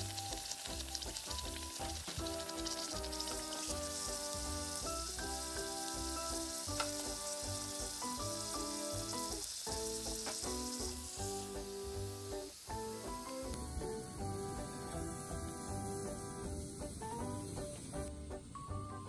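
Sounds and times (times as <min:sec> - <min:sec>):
oil sizzling while deep-frying: 0:00.0 - 0:19.0.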